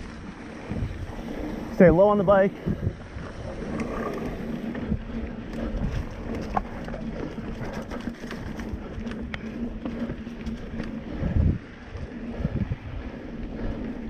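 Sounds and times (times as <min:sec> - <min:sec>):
bike clicks and rattles: 0:00.0 - 0:14.0
bike tyre rumble on dirt: 0:00.0 - 0:14.0
wind on microphone: 0:00.0 - 0:14.0.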